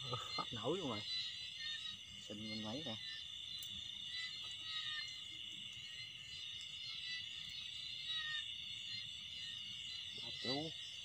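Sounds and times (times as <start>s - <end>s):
crickets and insects trilling: 0.0s - 11.0s.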